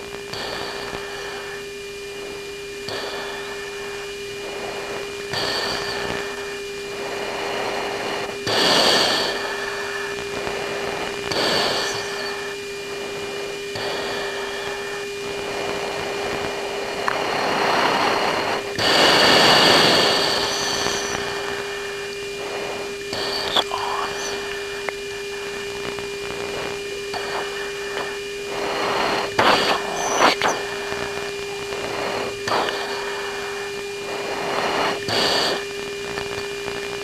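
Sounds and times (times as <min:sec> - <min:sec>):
bursts of radio hiss: 0:00.0 - 0:37.0
steady hum-like tone: 0:00.0 - 0:37.0.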